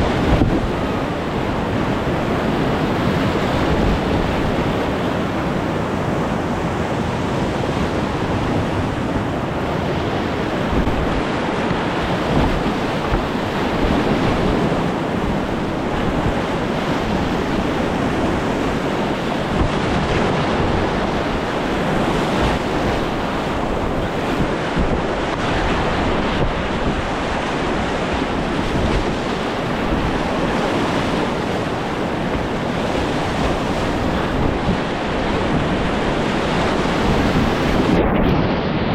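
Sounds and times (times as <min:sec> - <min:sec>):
rushing whitewater: 0:00.0 - 0:38.9.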